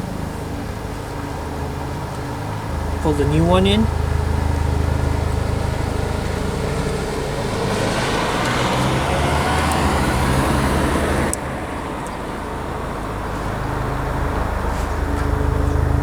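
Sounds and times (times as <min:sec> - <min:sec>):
rushing noise: 0:00.0 - 0:16.0
traffic hum: 0:00.0 - 0:16.0.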